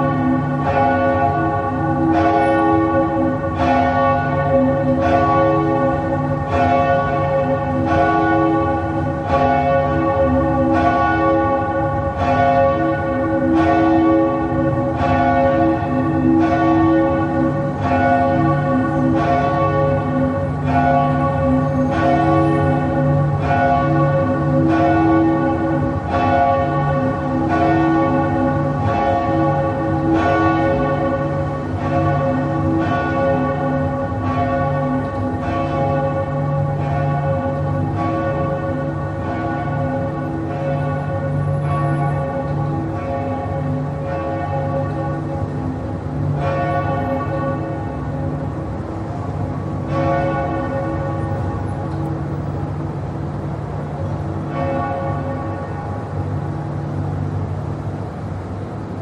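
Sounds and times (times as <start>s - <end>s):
church bells tolling: 0.0s - 59.0s.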